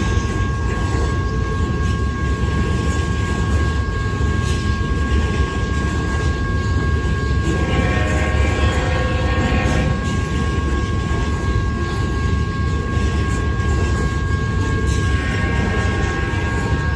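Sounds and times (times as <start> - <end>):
thin steady ringing tones: 0.0 - 16.9
train wheels rumbling on track: 0.0 - 16.9.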